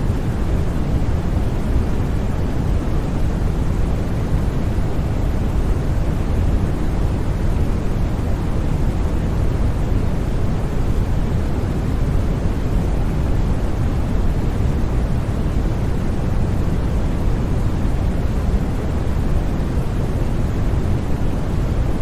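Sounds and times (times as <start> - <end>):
deep white noise hiss: 0.0 - 22.0.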